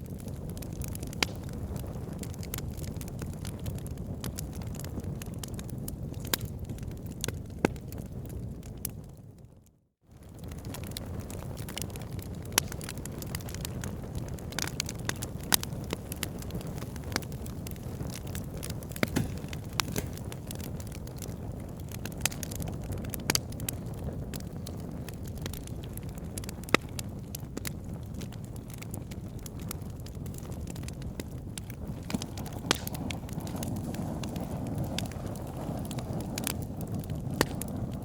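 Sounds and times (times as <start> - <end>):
fire crackling and popping: 0.0 - 9.5, 10.1 - 38.0
fire flames rumbling: 0.0 - 38.0.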